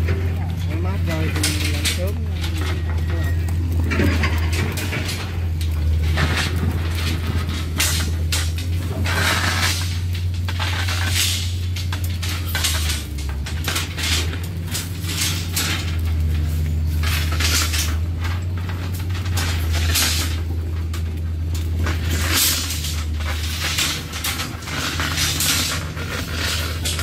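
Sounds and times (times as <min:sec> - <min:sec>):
rebar and wire clinking: 0:00.0 - 0:27.0.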